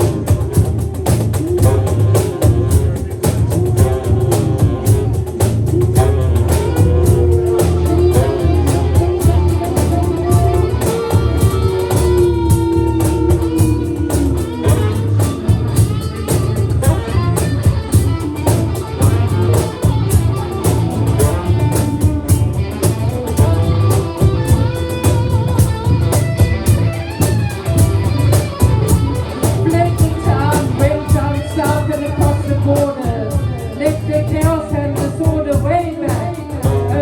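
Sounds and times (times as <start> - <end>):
electric guitar: 0.0 - 37.0
rock band playing: 0.0 - 37.0.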